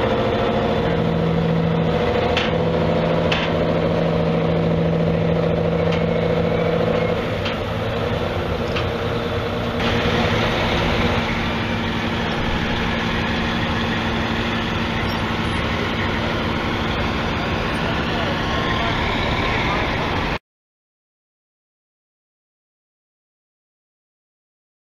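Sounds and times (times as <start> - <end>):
plows rolling: 0.0 - 20.4
tractor engine running: 0.0 - 20.4.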